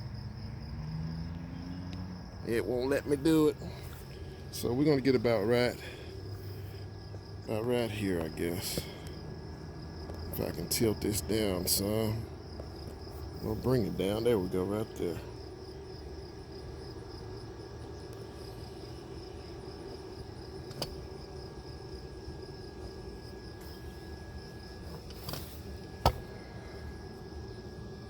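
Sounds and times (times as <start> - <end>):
cooling fan hum: 0.0 - 28.0
crickets chirping: 0.0 - 28.0.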